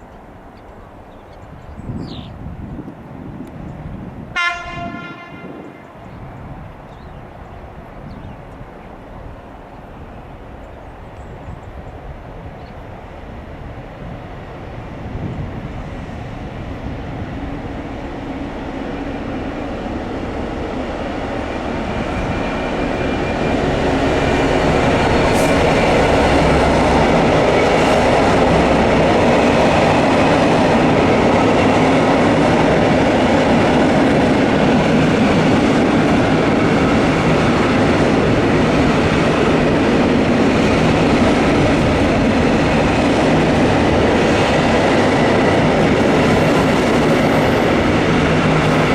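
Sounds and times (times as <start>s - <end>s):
freight train passing: 0.0s - 48.9s.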